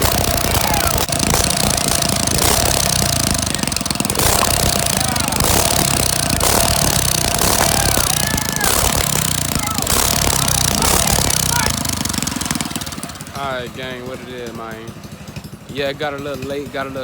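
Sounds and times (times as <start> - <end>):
small go-kart engine running: 0.0 - 17.0.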